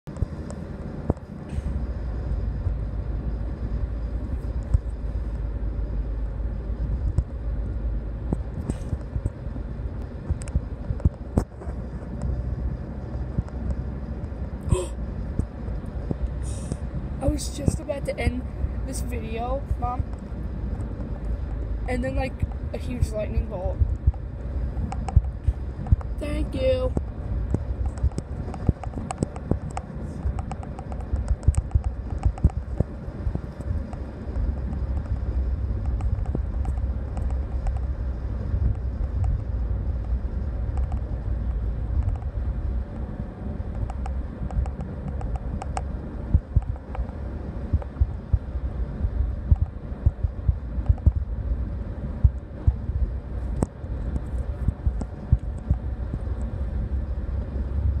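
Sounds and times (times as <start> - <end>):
wind buffeting microphone: 0.1 - 58.0.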